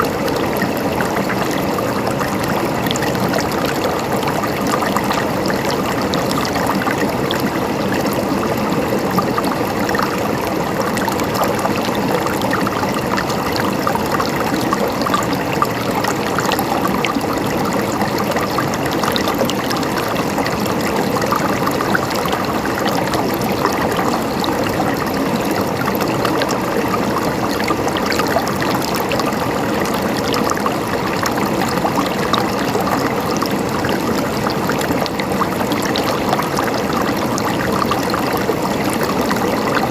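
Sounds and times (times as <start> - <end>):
running water gurgling: 0.0 - 39.9.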